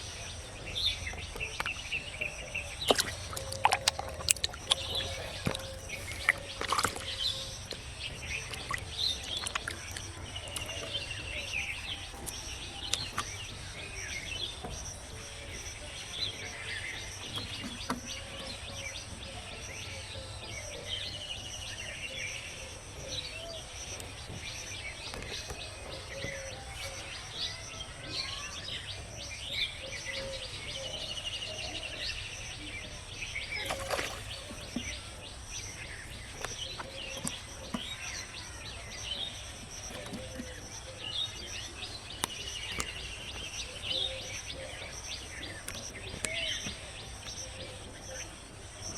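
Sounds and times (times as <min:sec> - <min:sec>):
birds chirping and calling: 0:00.0 - 0:48.9
outdoor background hum: 0:00.0 - 0:48.9.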